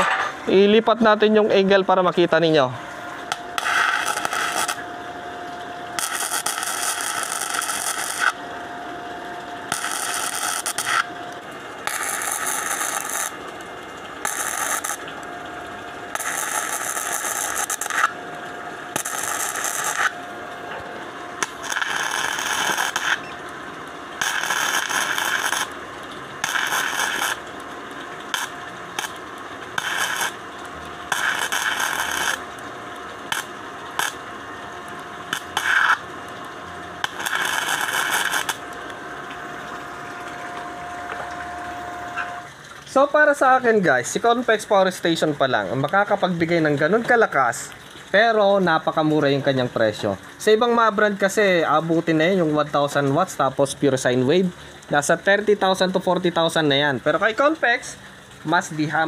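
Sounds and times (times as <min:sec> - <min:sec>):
faint steady whine: 0:00.0 - 0:59.0
welding arc crackling: 0:00.0 - 0:59.0.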